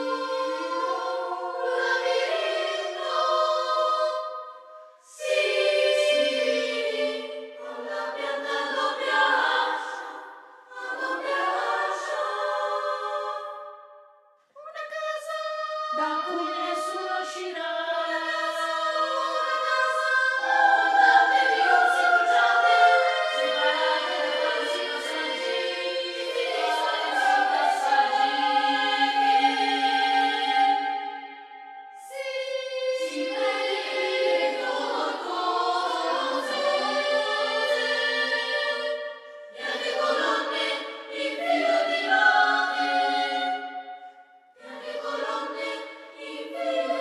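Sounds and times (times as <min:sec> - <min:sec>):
children's choir singing: 0:00.0 - 0:14.0, 0:14.8 - 0:47.0.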